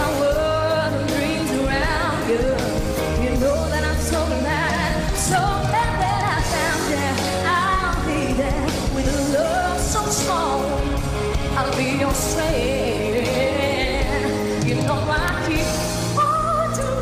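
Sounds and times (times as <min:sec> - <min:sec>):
band playing: 0:00.0 - 0:17.0
woman singing into microphone: 0:00.0 - 0:17.0.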